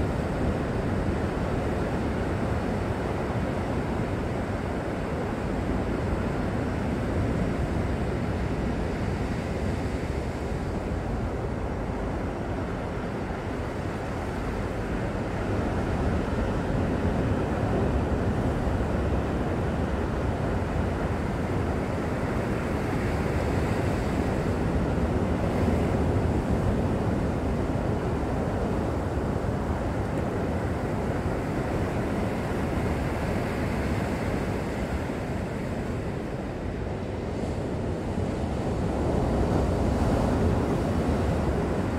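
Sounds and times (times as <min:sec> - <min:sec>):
wind rumbling on microphone: 0:00.0 - 0:41.9.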